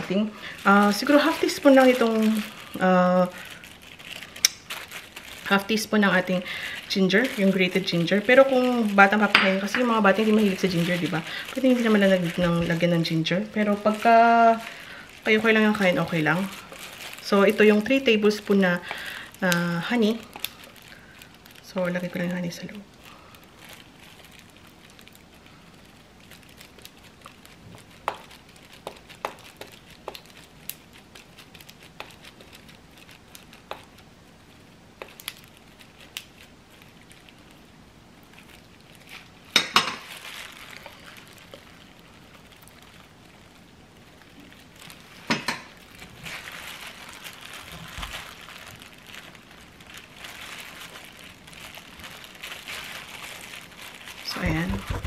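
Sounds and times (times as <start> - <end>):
plastic gloves crinkling: 0.0 - 55.0.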